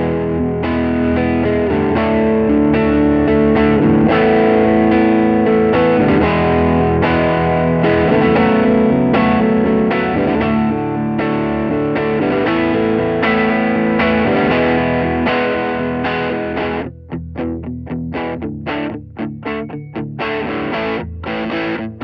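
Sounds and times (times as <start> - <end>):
overdriven electric guitar chords: 0.0 - 22.0.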